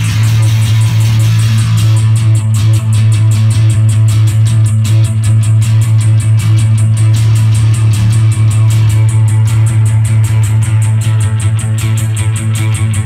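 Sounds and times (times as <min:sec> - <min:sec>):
electric guitar strummed: 0:00.0 - 0:13.0
fast drum beat: 0:00.0 - 0:13.0
low droning note: 0:00.0 - 0:13.0.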